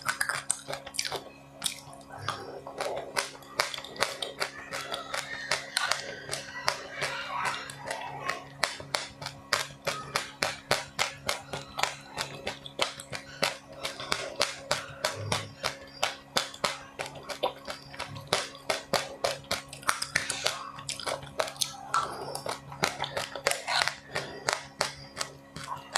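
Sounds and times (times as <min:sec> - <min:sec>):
chewing crunchy food: 0:00.0 - 0:25.9.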